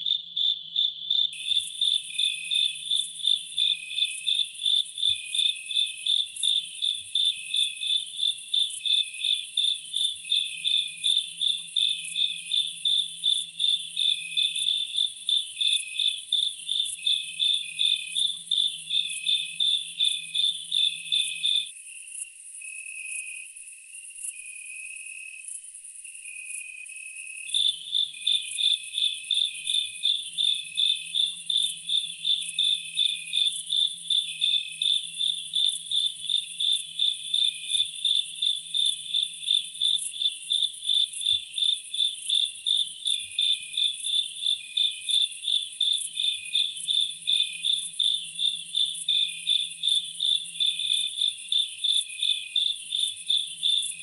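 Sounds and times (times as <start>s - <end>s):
insects chirping in a pulse: 0.0s - 54.0s.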